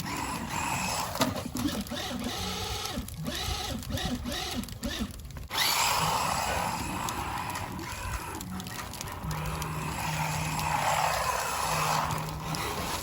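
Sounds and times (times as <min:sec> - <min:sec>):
rc truck motor whirring in snow: 0:00.0 - 0:08.4, 0:09.2 - 0:13.0.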